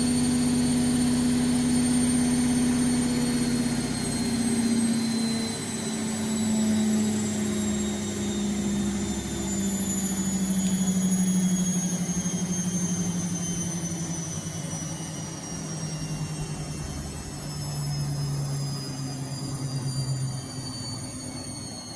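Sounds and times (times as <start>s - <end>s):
washing machine spinning: 0.0s - 21.9s.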